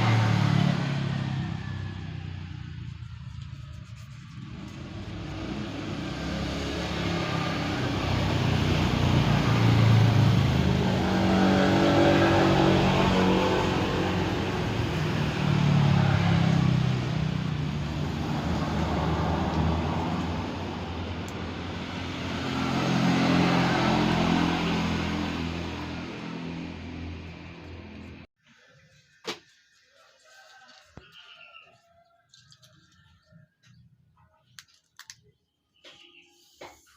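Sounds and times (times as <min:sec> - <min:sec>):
vehicles passing by: 0:00.0 - 0:36.9.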